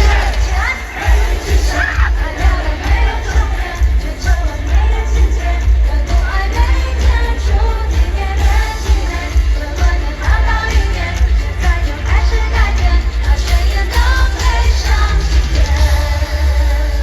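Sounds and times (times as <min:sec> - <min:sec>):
loud band with heavy bass: 0:00.0 - 0:17.0.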